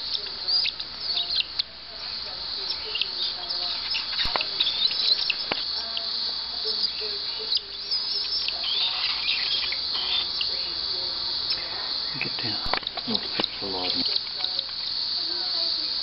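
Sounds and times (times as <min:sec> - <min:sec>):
baby bird begging chirps: 0:00.0 - 0:16.0.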